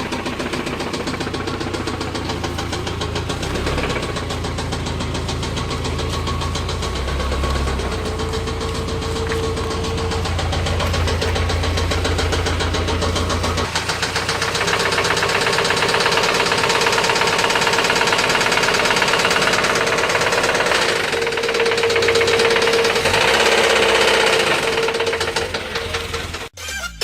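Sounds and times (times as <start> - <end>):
deep engine rumble: 0.0 - 26.6
engine rod knocking: 0.0 - 26.6.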